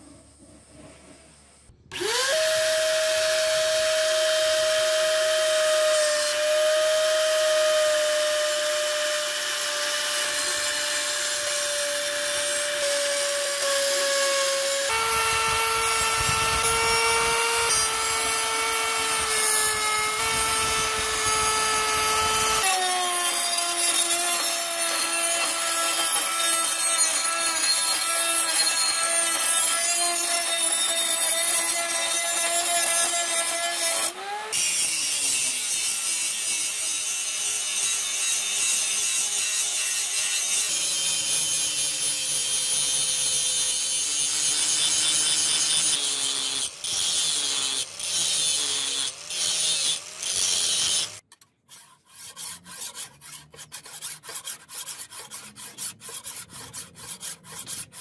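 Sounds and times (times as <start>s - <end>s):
electric grinder whining: 1.9s - 51.2s.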